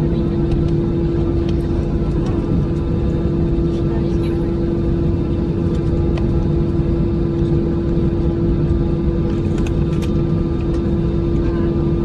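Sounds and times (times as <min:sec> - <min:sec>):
engine rumbling with drone: 0:00.0 - 0:12.0.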